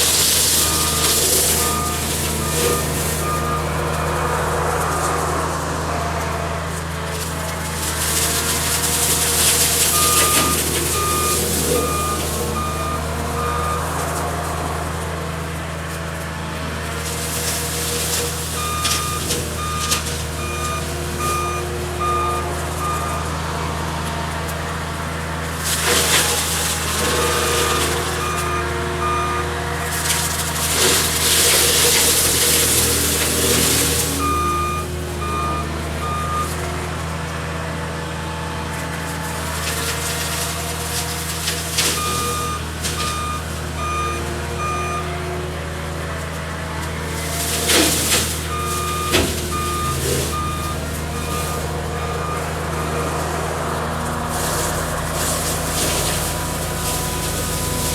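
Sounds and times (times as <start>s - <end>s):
reversing alarm beeping: 0.0s - 15.0s, 17.2s - 24.1s, 25.9s - 37.0s, 41.8s - 45.4s, 47.2s - 57.9s
brush cutter shredding brush: 0.0s - 57.9s
diesel engine under load: 0.0s - 57.9s.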